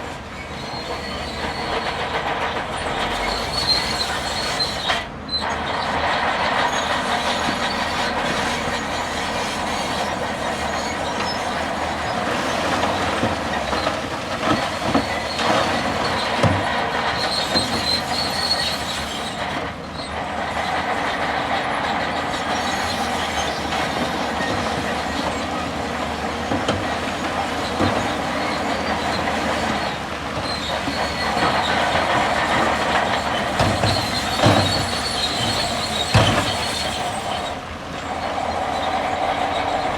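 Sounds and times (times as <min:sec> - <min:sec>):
bulldozer engine running: 0:00.0 - 0:39.9
crawler tracks squealing and clanking: 0:00.0 - 0:39.9.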